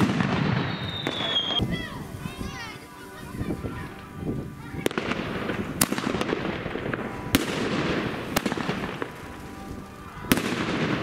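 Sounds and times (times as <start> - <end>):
firework hissing: 0.0 - 11.0
firework shot reports: 0.0 - 11.0.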